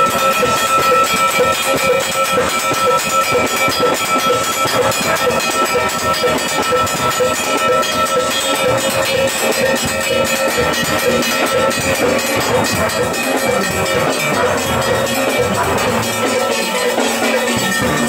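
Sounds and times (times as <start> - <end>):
percussion keeping the beat: 0.0 - 18.0
steelpans ringing: 0.0 - 18.0.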